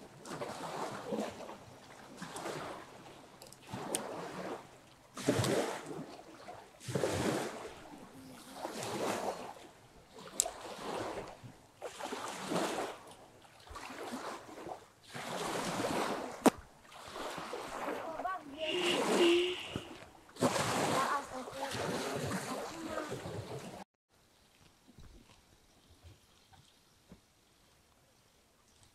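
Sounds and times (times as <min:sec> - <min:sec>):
small waves lapping on bank: 0:00.0 - 0:23.8.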